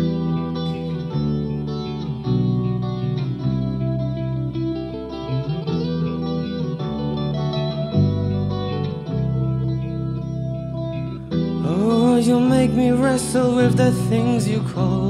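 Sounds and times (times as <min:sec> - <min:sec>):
deep bass line: 0:00.0 - 0:15.0
electric guitar chords: 0:00.0 - 0:15.0.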